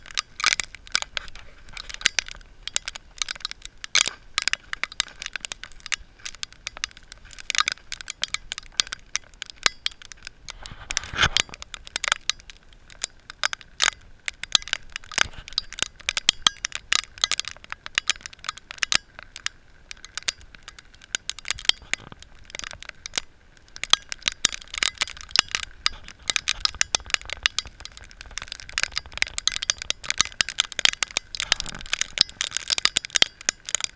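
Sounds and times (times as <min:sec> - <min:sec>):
ice pellets ticking on surfaces: 0:00.0 - 0:33.9.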